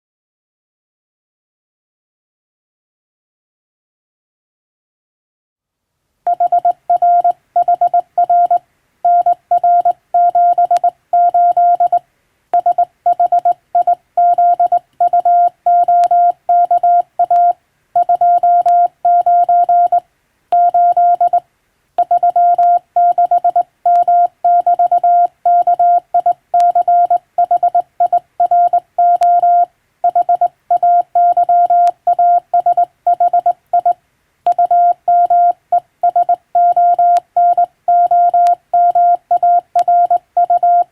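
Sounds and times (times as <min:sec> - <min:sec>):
morse code beep tone: 0:06.3 - 0:12.0, 0:12.6 - 0:20.0, 0:20.6 - 0:21.4, 0:22.0 - 0:40.9.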